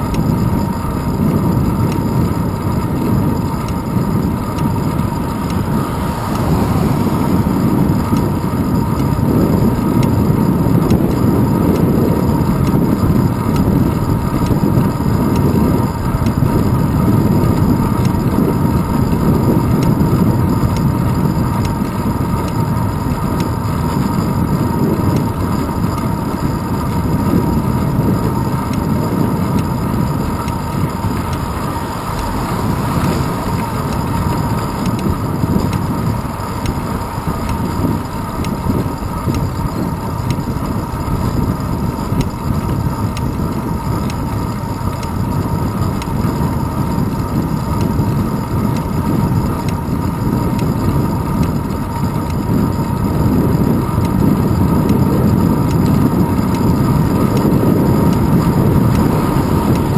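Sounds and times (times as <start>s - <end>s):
road vibration rumble: 0.0s - 59.9s
wind buffeting: 0.0s - 59.9s.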